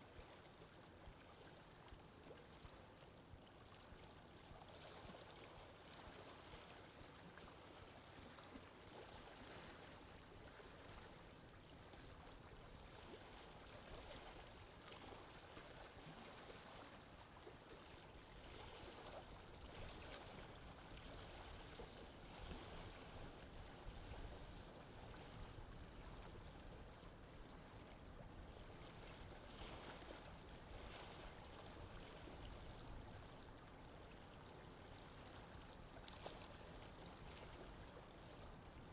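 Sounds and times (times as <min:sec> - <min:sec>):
lake water lapping: 0:00.0 - 0:38.9.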